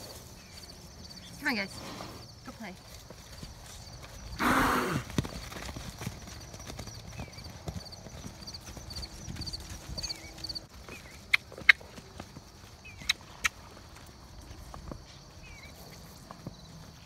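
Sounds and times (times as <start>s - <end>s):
horse hooves thudding on wet grass: 0.0s - 17.0s.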